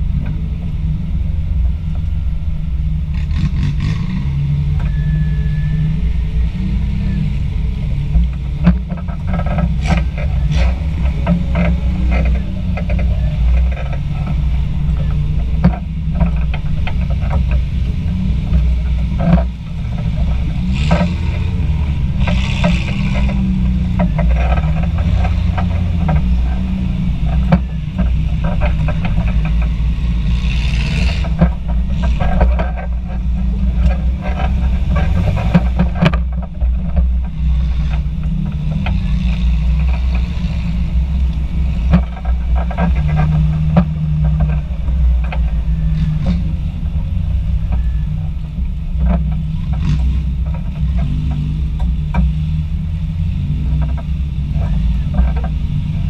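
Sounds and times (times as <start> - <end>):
car engine low rumble: 0.0 - 56.0
knocks and rattles: 3.1 - 56.0.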